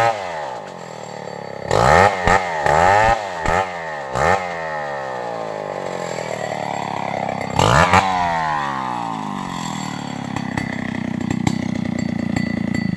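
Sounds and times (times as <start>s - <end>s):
chainsaw engine revving: 0.0s - 12.9s.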